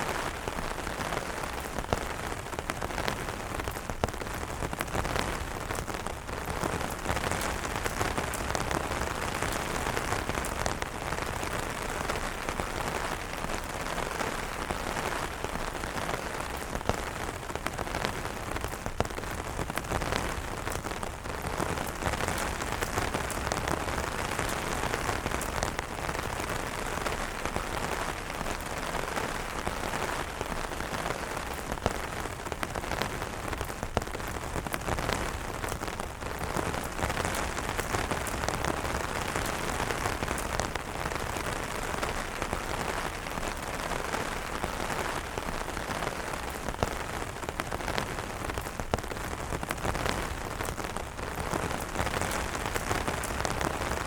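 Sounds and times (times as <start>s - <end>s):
heavy rain on umbrellas: 0.0s - 54.0s.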